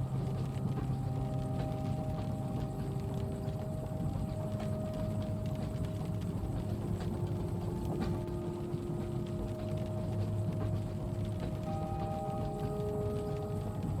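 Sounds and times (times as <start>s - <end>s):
humming held tones: 0.0s - 14.0s
light clicks and clacks: 0.0s - 14.0s
train carriage rumble: 0.0s - 14.0s.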